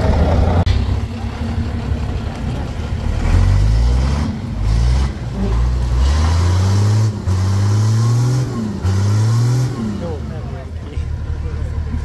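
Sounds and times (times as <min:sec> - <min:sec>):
diesel truck engine revving: 0:00.0 - 0:12.0.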